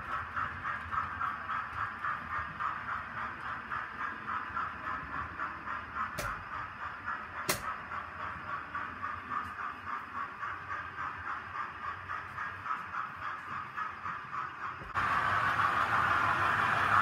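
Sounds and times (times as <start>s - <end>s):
model train clattering on track: 0.0s - 15.1s.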